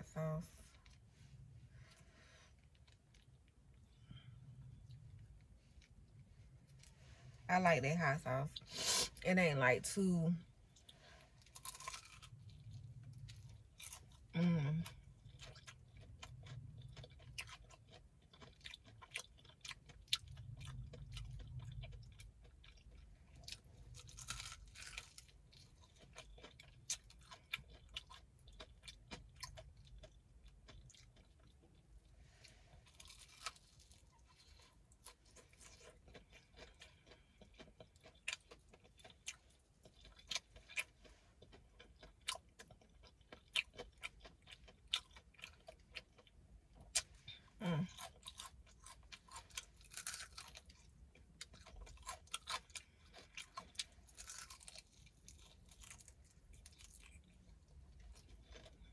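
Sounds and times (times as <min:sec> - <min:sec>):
crunching fried chicken: 0:10.4 - 0:58.9.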